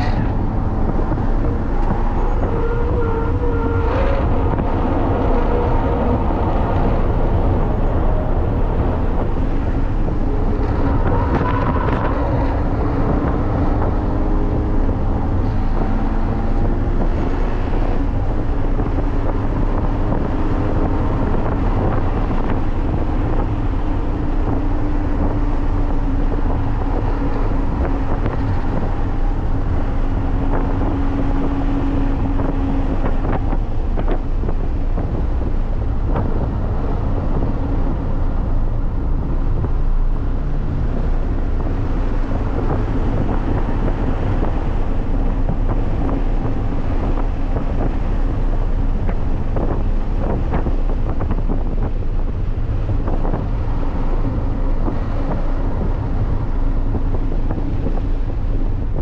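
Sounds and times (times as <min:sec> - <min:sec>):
car engine pulling: 0:00.0 - 0:59.0
wind and road noise: 0:00.0 - 0:59.0.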